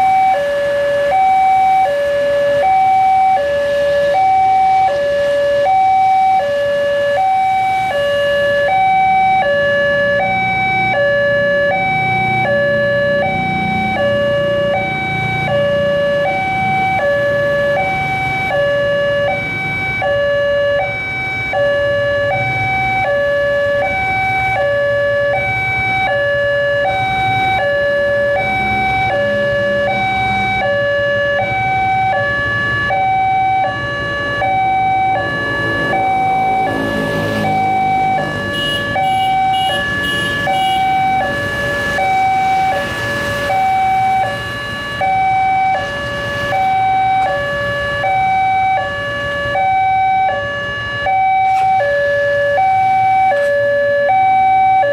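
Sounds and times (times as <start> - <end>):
low rumble of engines: 0.0 - 54.9
two-tone electronic crossing alarm: 0.0 - 54.9.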